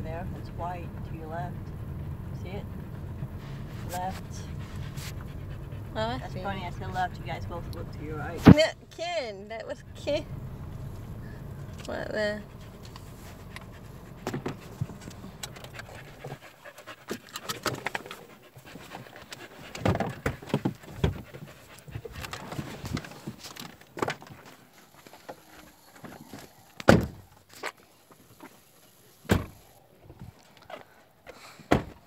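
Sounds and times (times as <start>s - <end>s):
dog panting: 0.2s - 8.8s, 9.5s - 32.0s.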